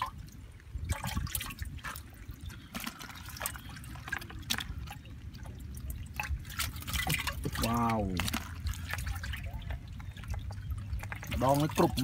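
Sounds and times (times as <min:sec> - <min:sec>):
water dripping: 0:00.0 - 0:12.0
hands splashing in muddy water: 0:00.8 - 0:12.0.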